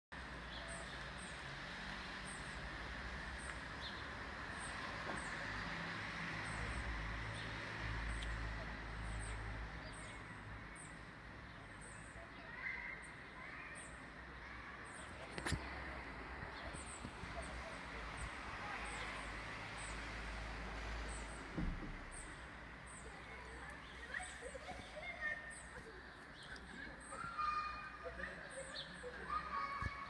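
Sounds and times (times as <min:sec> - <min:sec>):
steady outdoor hiss: 0:00.2 - 0:30.0.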